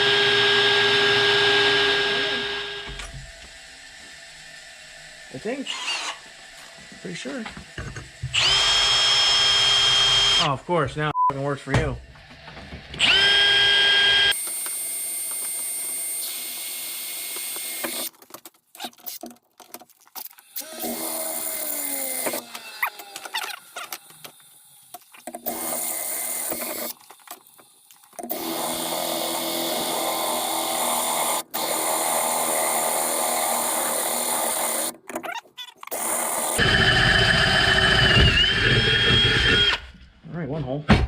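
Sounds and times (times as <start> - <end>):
power drill drilling metal: 0.0 - 10.6, 13.0 - 18.1, 20.4 - 27.0, 28.2 - 35.0, 35.9 - 39.9.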